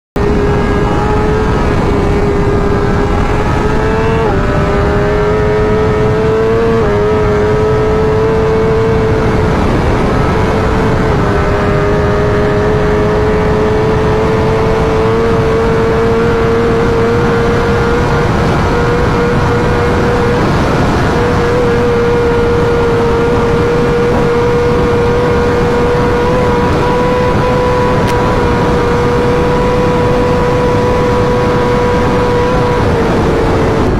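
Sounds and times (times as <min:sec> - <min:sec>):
heavy wind rush: 0:00.2 - 0:33.9
motorcycle engine accelerating: 0:00.2 - 0:33.9.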